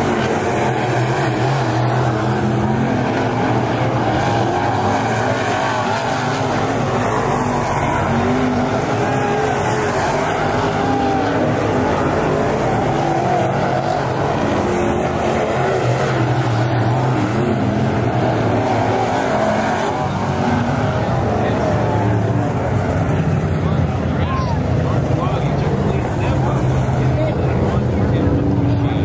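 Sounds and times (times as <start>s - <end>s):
race car engines passing: 0.0s - 29.0s.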